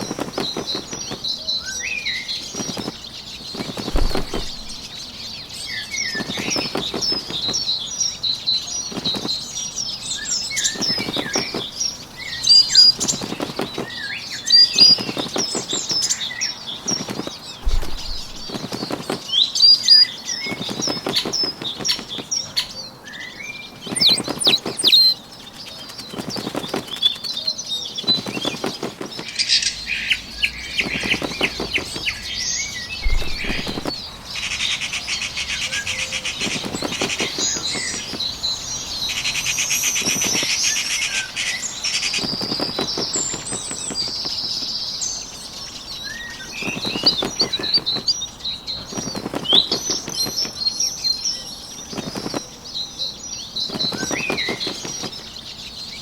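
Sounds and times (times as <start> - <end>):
small bird wing flaps: 0.0 - 7.8, 8.7 - 9.7, 10.5 - 22.7, 23.7 - 34.1, 36.1 - 44.8, 46.2 - 50.8, 51.8 - 52.6, 53.5 - 55.4
songbirds chirping: 0.0 - 56.0.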